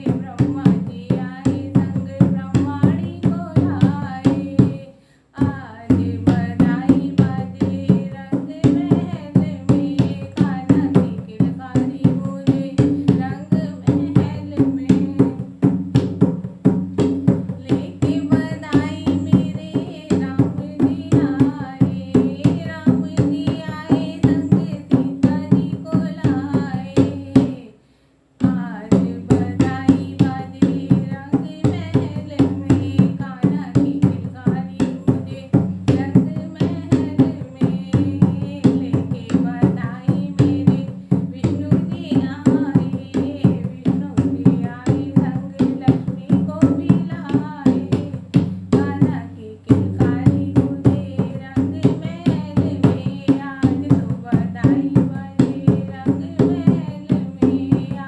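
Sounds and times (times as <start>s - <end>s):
hand drum beat: 0.0s - 27.7s, 28.4s - 58.0s
woman singing devotional song: 0.0s - 58.0s.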